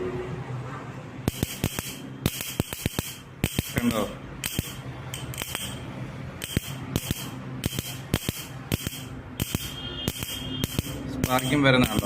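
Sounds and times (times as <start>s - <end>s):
ignition coil sparks clicking: 1.3s - 5.8s, 6.4s - 12.0s.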